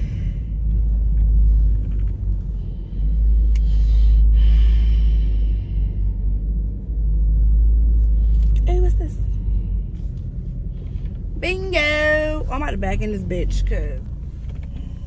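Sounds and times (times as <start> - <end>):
car rumble from inside cabin: 0.0 - 15.0.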